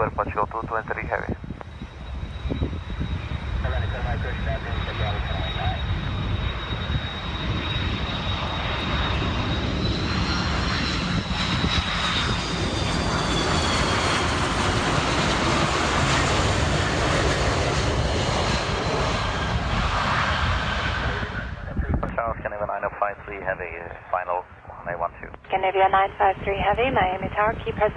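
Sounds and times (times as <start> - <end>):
jet engines passing: 0.0 - 27.9.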